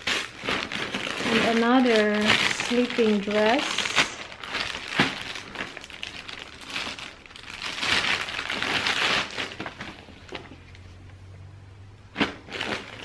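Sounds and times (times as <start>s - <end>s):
plastic bag crinkling: 0.0s - 10.8s, 12.1s - 13.0s.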